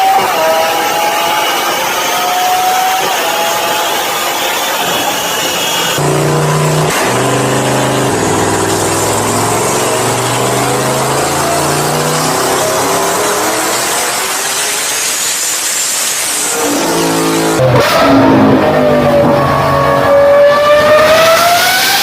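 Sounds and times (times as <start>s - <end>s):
car engine revving on dynamometer: 0.0s - 22.0s.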